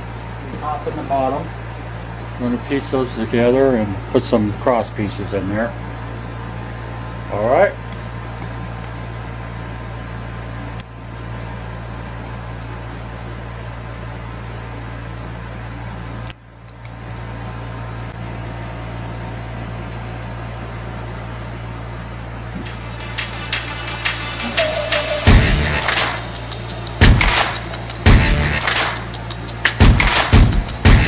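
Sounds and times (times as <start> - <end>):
low mechanical hum with hiss: 0.0 - 31.0.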